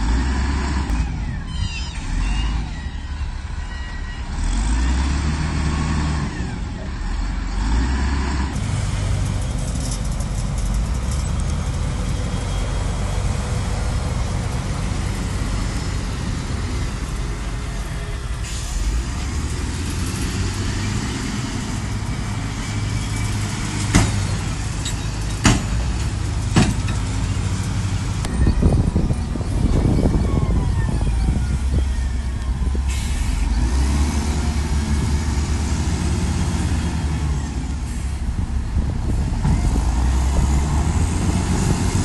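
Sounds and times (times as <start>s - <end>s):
heavy diesel machinery running: 0.0s - 42.0s.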